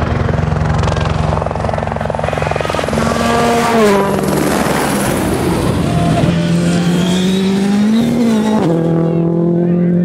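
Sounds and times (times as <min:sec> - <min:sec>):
rally car engine: 0:00.0 - 0:10.0.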